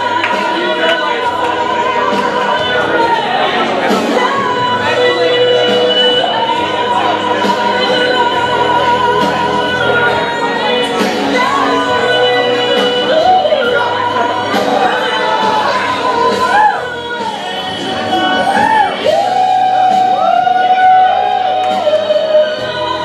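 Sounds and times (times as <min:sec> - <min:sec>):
loud music: 0:00.0 - 0:23.0
person singing long notes: 0:00.0 - 0:23.0.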